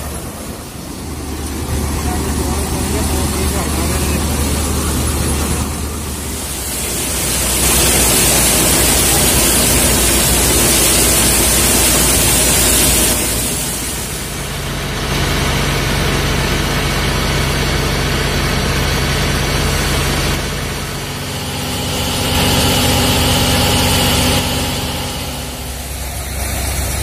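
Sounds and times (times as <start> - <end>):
thresher rushing hiss: 0.0 - 15.4, 19.8 - 27.0
tractor diesel engine hum: 0.0 - 27.0.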